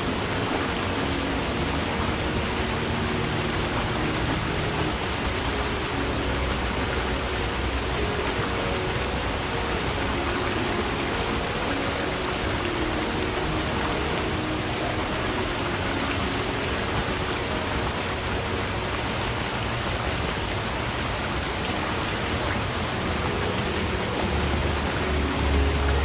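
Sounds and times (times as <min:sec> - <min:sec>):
forest stream running: 0:00.0 - 0:26.0.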